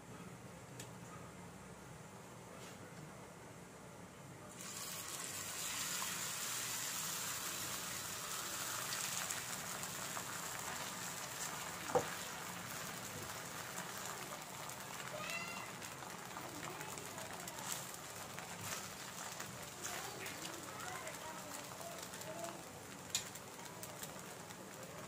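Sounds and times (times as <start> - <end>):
omelet sizzling in a pan: 4.5 - 25.0.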